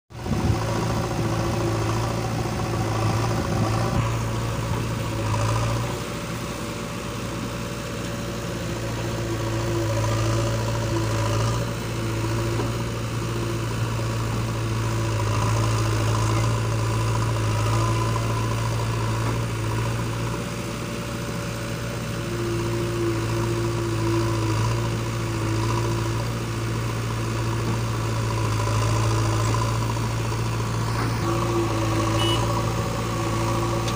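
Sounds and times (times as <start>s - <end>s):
backhoe diesel engine running: 0.1s - 33.9s
backhoe digging sand: 0.1s - 33.9s.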